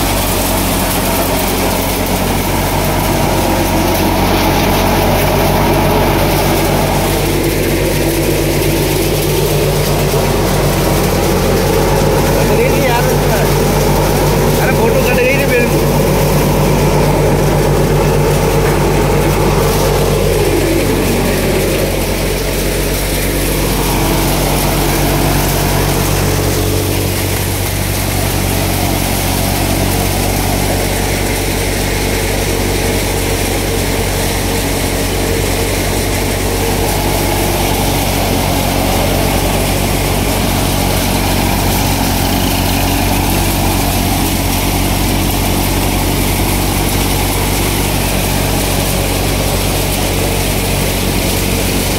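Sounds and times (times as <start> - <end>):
grain thresher drone: 0.0 - 51.9
tractor diesel engine running: 0.0 - 51.9.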